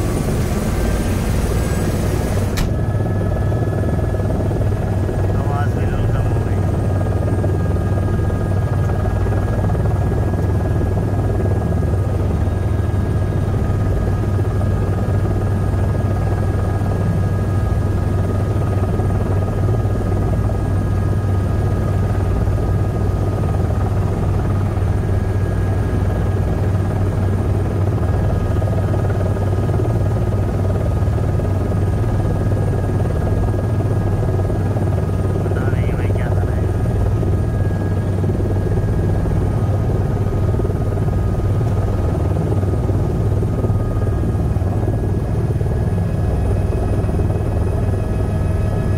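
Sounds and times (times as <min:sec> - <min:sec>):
helicopter engine whine: 0:00.0 - 0:48.9
helicopter rotor drone: 0:00.0 - 0:48.9.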